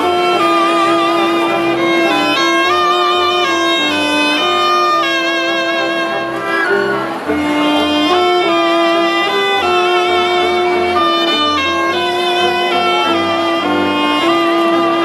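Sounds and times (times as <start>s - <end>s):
double bass: 0.0s - 15.0s
trumpets: 0.0s - 15.0s
woodwind band playing: 0.0s - 15.0s.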